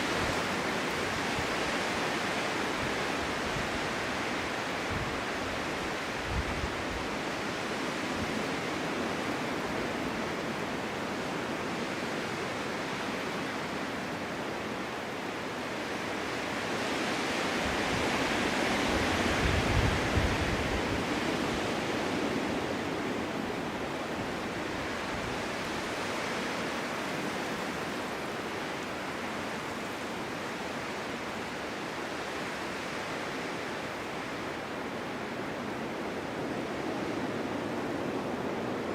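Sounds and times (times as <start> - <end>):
wind blowing in a snowstorm: 0.0 - 38.9.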